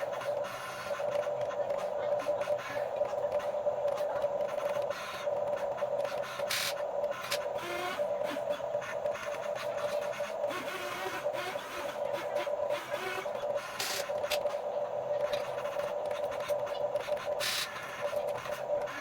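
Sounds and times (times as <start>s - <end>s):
toy excavator motors whining: 0.0s - 14.5s, 15.2s - 19.0s.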